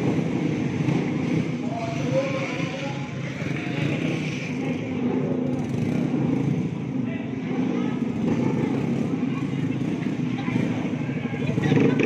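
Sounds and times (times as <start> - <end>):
crowd chatter: 0.0 - 12.0
scooter engines running: 0.0 - 12.0.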